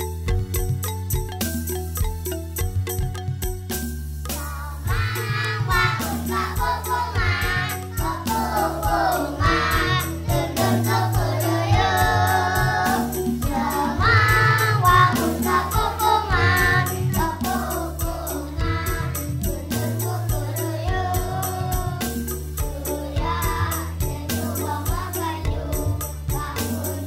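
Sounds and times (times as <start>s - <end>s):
children's dance song singing: 4.3s - 27.0s.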